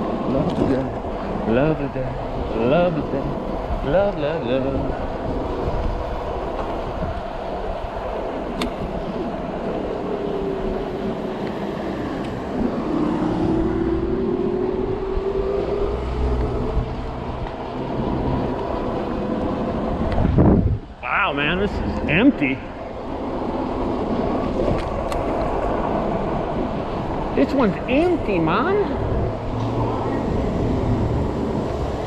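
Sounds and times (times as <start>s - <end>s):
tyre and wind rumble: 0.0s - 32.0s.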